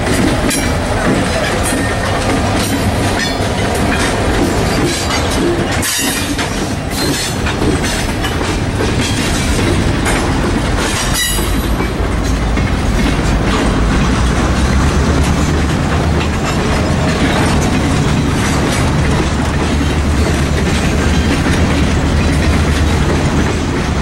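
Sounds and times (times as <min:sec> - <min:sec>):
rumble of rolling freight cars: 0:00.0 - 0:24.0
wheels clacking over rail joints: 0:00.0 - 0:24.0.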